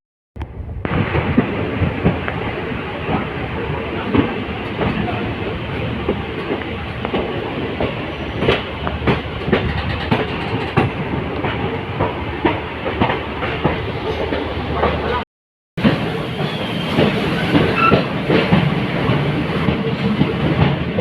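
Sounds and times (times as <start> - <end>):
train coach rumble: 0.4 - 15.2, 15.8 - 21.0
wheels clacking over rails: 1.4 - 15.2, 15.8 - 21.0.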